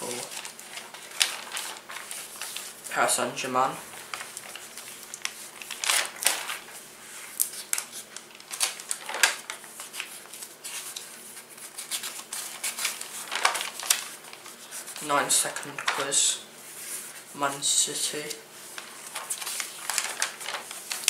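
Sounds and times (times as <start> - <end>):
magazine pages rustling: 0.0 - 21.0.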